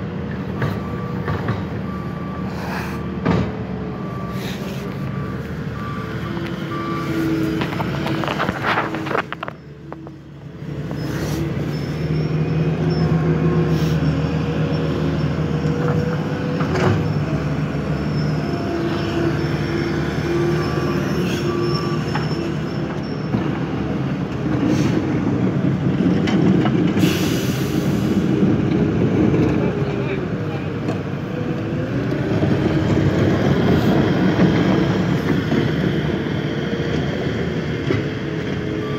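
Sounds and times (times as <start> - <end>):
heavy road machinery running: 0.0 - 38.9.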